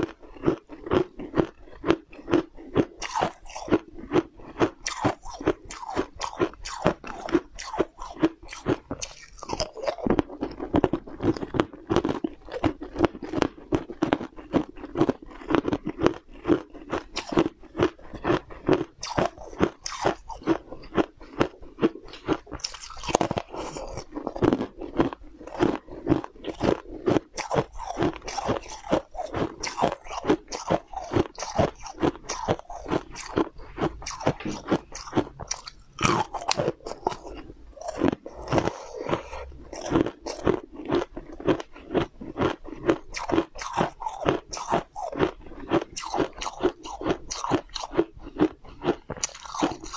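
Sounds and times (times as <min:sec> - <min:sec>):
crisp food crunching: 0:00.0 - 0:49.9.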